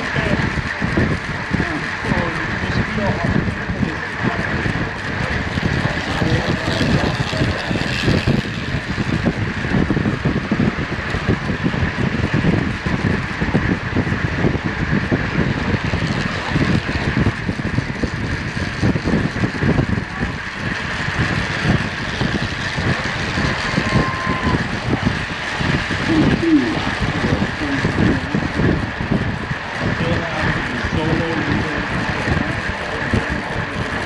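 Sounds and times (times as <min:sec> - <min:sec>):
high whir of bikes: 0:00.0 - 0:34.0
wind buffeting on microphone: 0:00.0 - 0:34.0.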